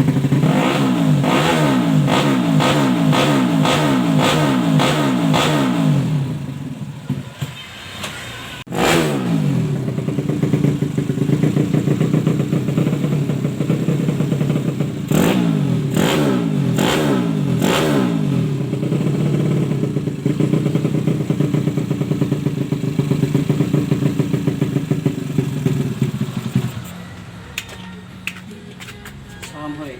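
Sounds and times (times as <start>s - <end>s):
motorcycle engine revving: 0.0s - 27.4s.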